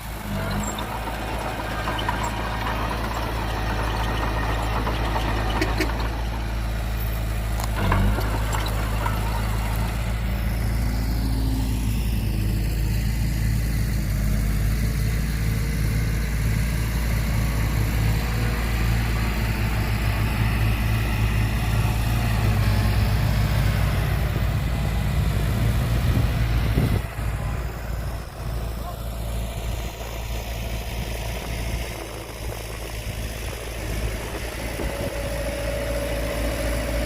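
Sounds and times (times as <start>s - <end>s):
heavy diesel engine rumbling: 0.0s - 37.0s.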